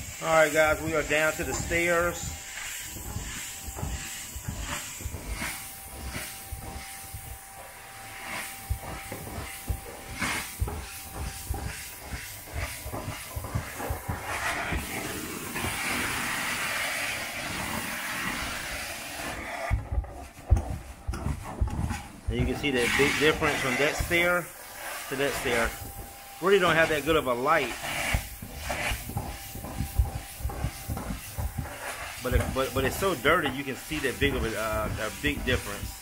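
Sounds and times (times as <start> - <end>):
carpet extractor spraying and sucking: 0.0 - 36.0.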